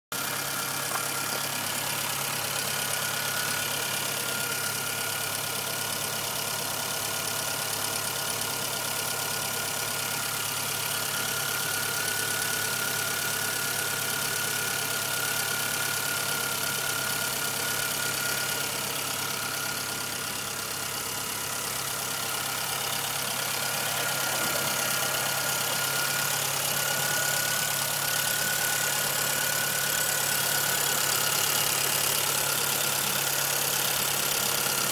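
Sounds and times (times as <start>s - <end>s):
car engine idling with ticking: 0.1s - 34.9s.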